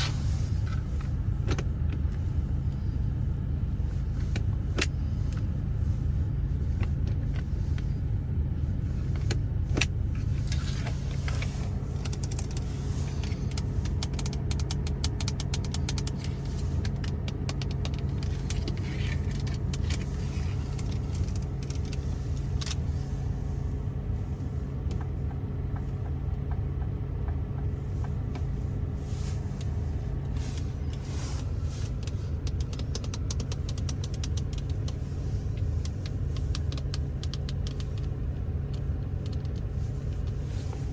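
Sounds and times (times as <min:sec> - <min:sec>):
fingertips tapping car interior: 0:00.0 - 0:40.9
steady low rumble: 0:00.0 - 0:40.9.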